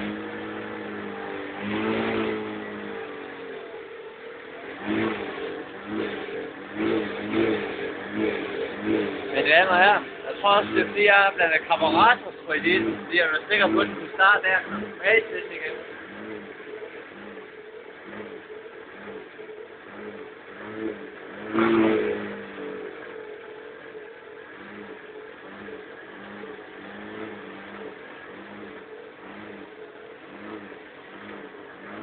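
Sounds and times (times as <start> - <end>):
scooter engine idling: 0.0 - 21.5, 22.2 - 32.0.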